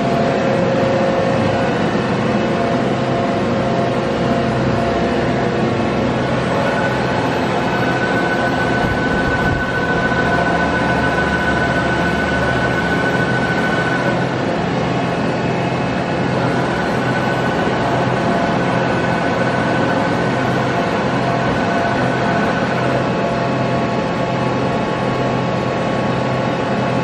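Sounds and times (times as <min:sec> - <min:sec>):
boring mill mechanical hum: 0:00.0 - 0:27.0
high machine whine: 0:00.0 - 0:27.0.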